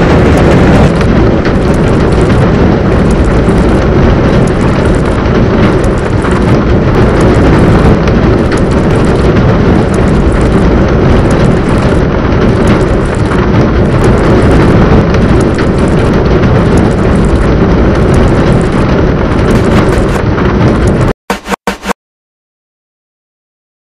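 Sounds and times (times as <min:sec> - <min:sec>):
loud dense rumbling noise: 0:00.0 - 0:22.0.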